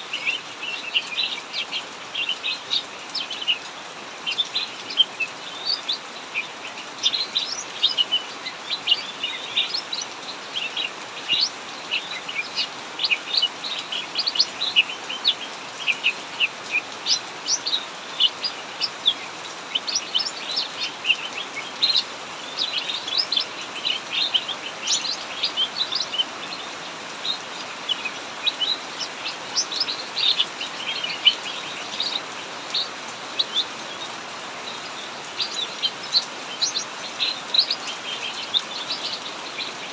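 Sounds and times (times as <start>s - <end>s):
heavy rain hiss: 0.0s - 39.9s
bird chirping rapidly: 4.3s - 39.9s.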